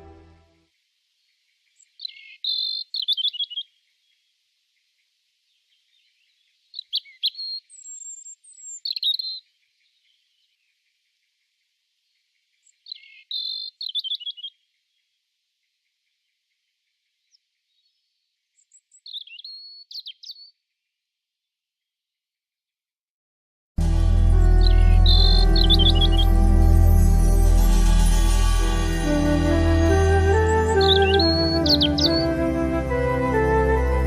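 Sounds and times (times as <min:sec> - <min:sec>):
songbird chirping and trilling: 0:01.2 - 0:21.6, 0:23.9 - 0:34.0.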